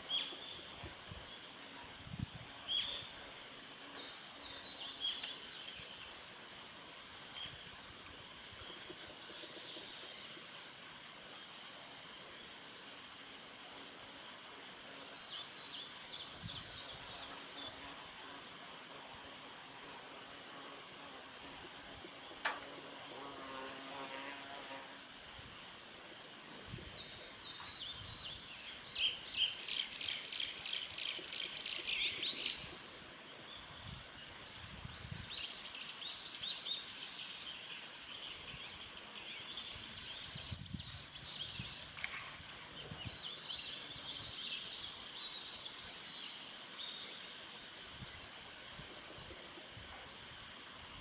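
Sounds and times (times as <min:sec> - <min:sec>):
high-pitched background hiss: 0:00.0 - 0:51.0.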